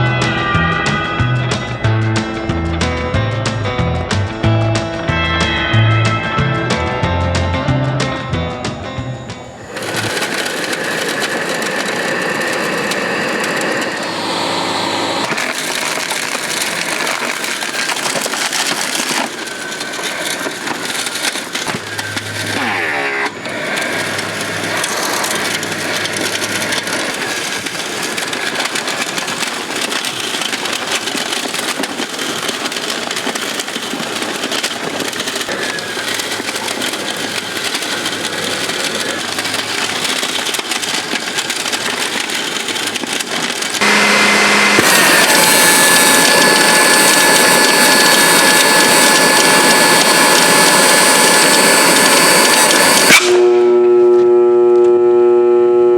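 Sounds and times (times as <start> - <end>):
vacuum cleaner motor whining: 8.6 - 55.9.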